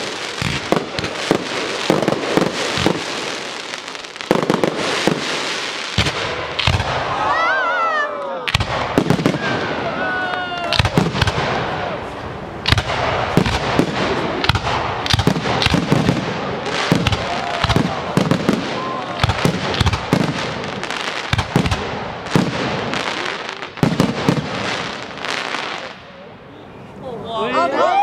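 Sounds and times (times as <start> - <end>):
fireworks hissing and crackling: 0.0 - 7.8, 8.5 - 27.3
fireworks bursting: 0.0 - 26.3.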